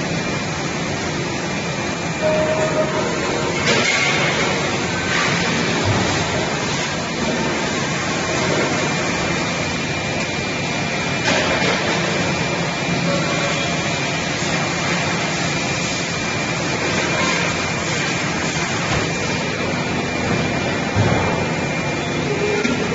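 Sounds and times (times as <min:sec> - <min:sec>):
welding machine rushing and whining: 0:00.0 - 0:22.9.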